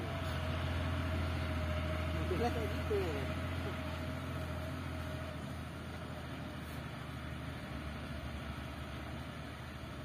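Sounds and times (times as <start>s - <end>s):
truck engine rumble: 0.0s - 10.0s.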